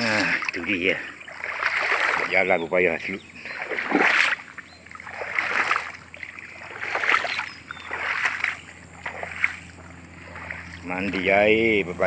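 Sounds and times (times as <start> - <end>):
footsteps splashing through water: 0.1 - 11.7.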